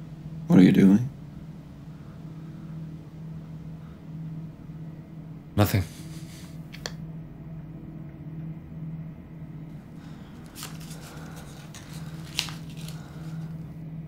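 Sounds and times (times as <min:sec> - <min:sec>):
low pulsing hum: 0:00.0 - 0:14.0.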